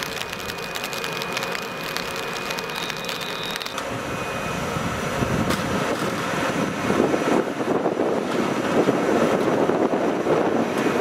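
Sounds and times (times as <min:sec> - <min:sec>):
locomotive machinery rushing noise: 0:00.0 - 0:11.0.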